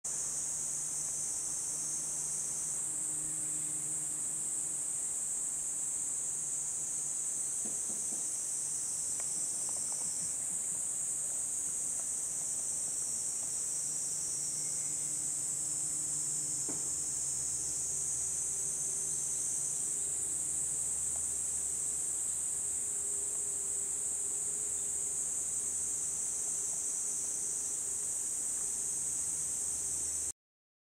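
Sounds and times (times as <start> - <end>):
insects singing: 0.1 - 30.3.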